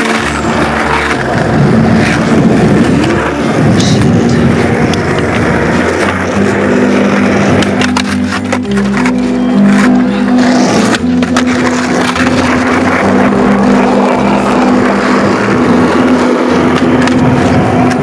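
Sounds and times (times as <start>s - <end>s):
background music: 0.0s - 18.0s
skateboard clacks: 0.0s - 18.0s
skateboard wheels rolling on concrete: 0.0s - 18.0s.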